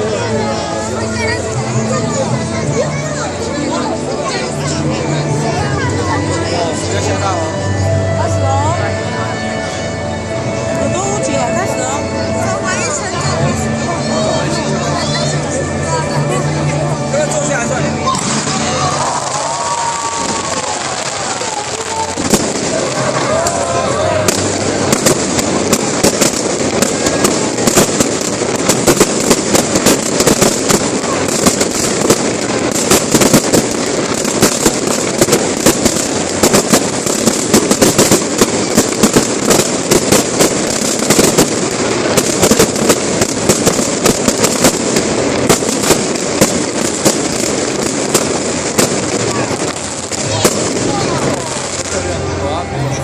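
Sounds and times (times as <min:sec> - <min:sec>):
fireworks crackling and banging: 0:00.0 - 0:53.0.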